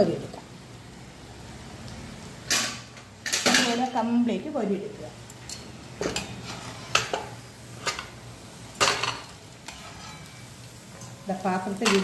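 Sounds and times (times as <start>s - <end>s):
frying oil sizzling: 0.0s - 12.0s.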